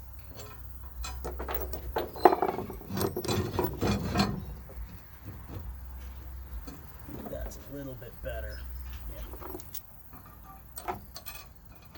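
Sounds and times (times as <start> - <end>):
metal fixture scraping and knocking: 0.0 - 11.9.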